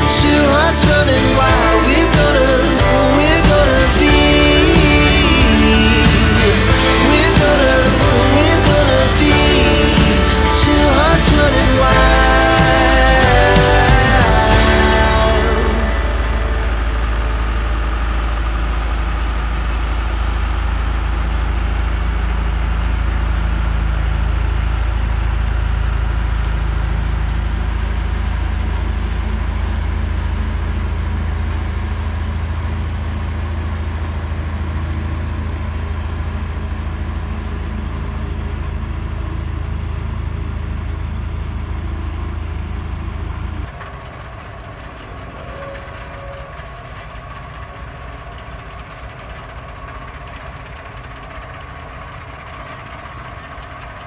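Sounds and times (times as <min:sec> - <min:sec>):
road roller diesel engine rumble: 0:00.0 - 0:54.0.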